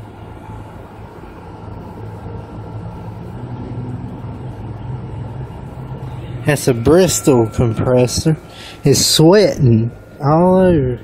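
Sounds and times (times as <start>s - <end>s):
heat pump unit humming: 0.0s - 11.0s.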